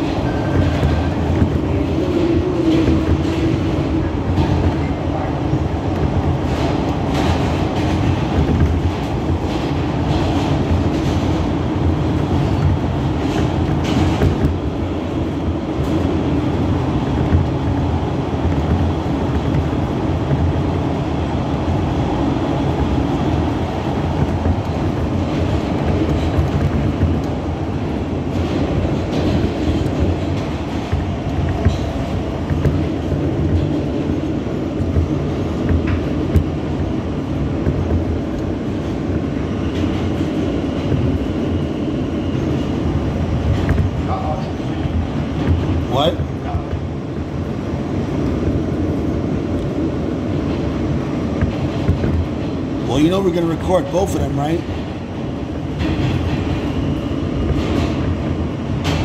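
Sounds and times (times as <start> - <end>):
rumble of wheels on rail: 0.0 - 59.0.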